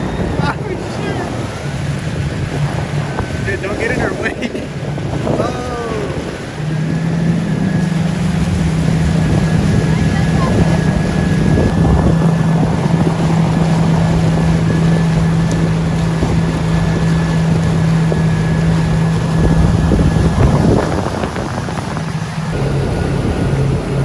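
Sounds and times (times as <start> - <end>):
jet ski engine running: 0.0 - 24.0
rushing water: 0.0 - 24.0
wind noise on microphone: 0.0 - 24.0.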